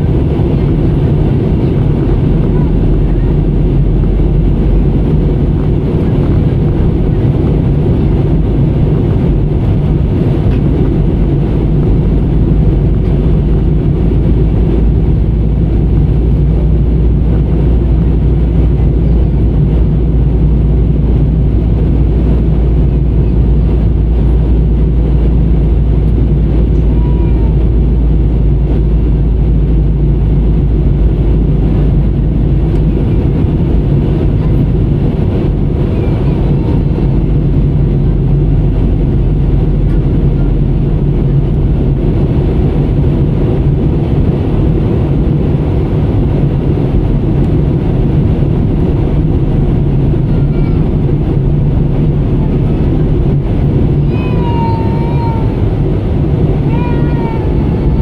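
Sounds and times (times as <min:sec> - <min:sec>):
airliner cabin roar: 0:00.0 - 0:58.0.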